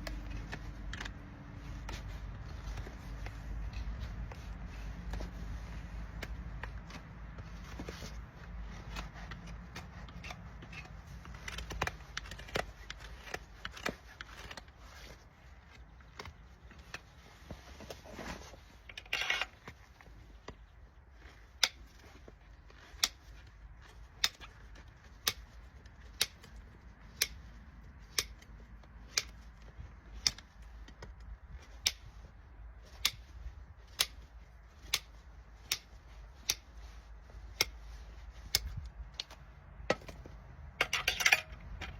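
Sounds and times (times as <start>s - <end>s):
hoof tools scraping: 0.0s - 41.9s.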